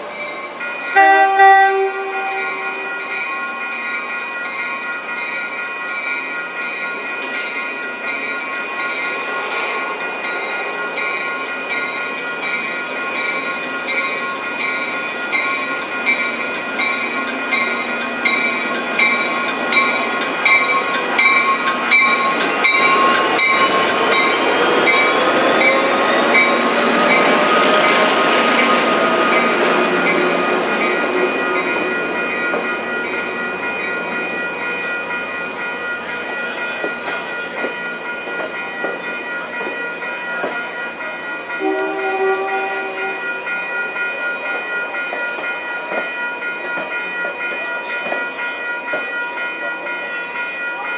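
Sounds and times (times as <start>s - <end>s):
diesel locomotive passing: 0.0s - 50.9s
train bell ringing: 0.0s - 50.9s.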